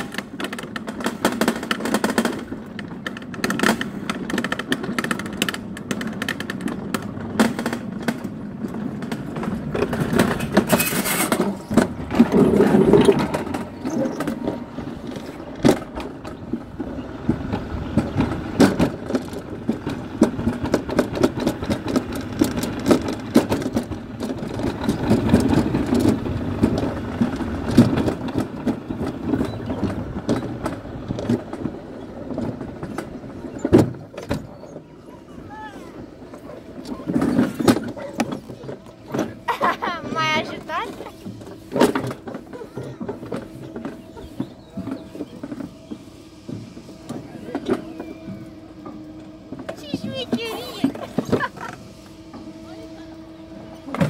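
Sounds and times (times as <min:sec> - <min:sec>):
sled runners rumbling and rattling: 0:00.0 - 0:54.0.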